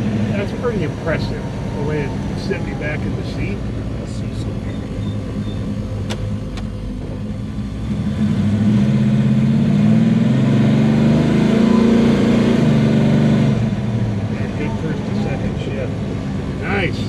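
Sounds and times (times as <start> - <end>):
car engine revving under throttle: 0.0 - 17.0.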